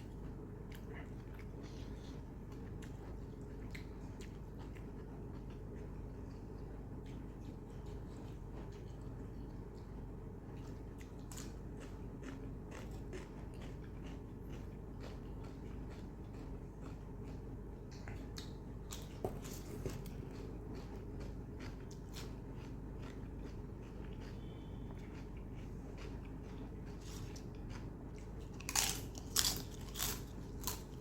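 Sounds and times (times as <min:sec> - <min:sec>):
low steady hum: 0:00.0 - 0:31.0
person chewing food: 0:00.0 - 0:31.0.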